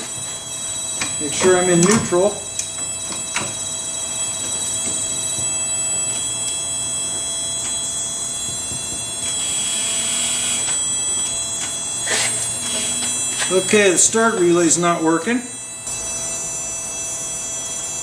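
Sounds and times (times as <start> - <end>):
steady electrical buzz: 0.0 - 18.0.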